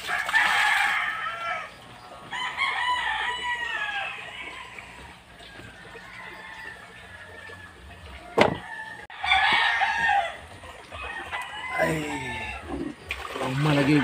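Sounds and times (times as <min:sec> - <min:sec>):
roosters crowing: 0:00.0 - 0:13.1.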